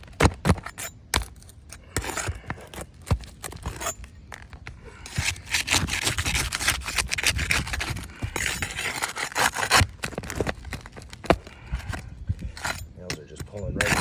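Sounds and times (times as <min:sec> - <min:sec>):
shingles scraped and pried up: 0:00.0 - 0:14.0.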